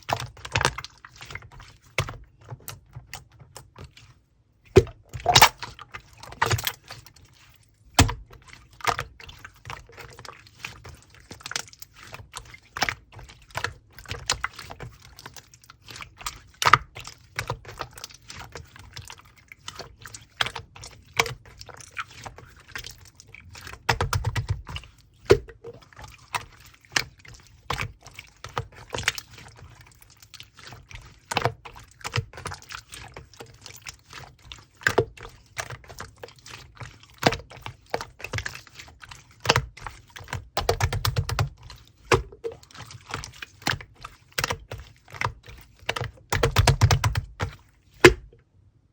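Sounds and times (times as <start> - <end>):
slime squelching and clicking: 0.0 - 48.4.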